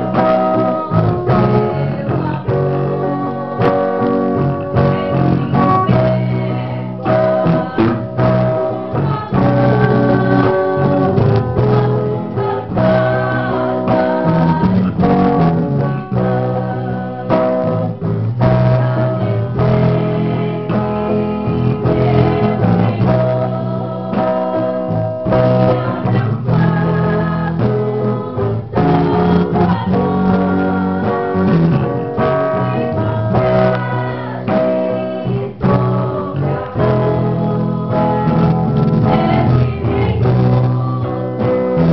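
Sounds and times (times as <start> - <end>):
guitar accompaniment: 0.0 - 41.9
person singing gospel music: 0.0 - 41.9
steady bass line: 0.0 - 41.9.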